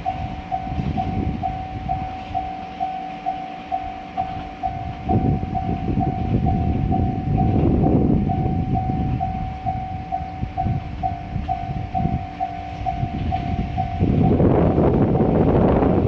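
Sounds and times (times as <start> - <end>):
level crossing warning bell: 0.0 - 16.0
train rumbling past on rails: 0.0 - 16.0
wind buffeting microphone: 0.0 - 16.0.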